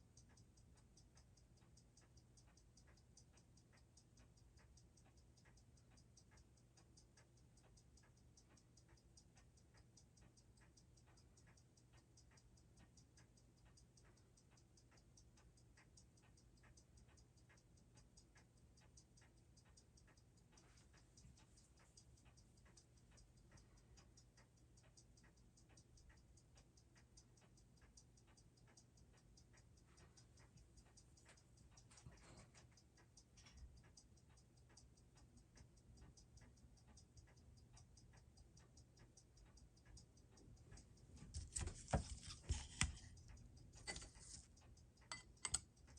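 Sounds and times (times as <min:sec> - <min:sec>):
watch ticking faintly: 0:00.0 - 0:45.9.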